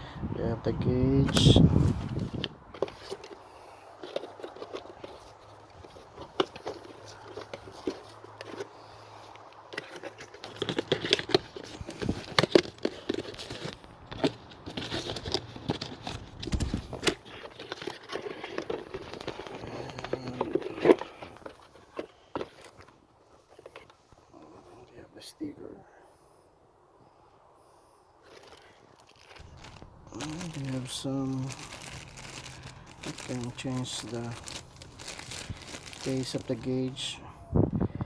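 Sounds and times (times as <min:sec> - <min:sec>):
packaging rustling and crinkling: 0:01.2 - 0:24.1, 0:28.2 - 0:37.3.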